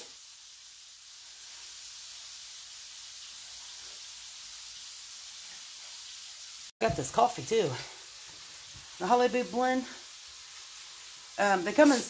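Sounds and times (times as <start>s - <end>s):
patties sizzling in a frying pan: 0.0s - 12.0s.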